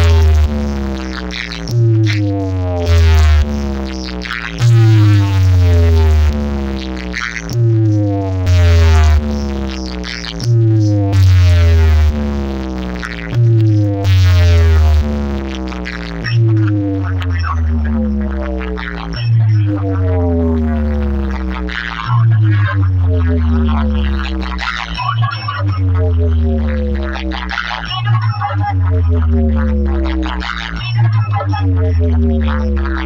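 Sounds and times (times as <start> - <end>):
loud electronic dance music: 0.0 - 33.0.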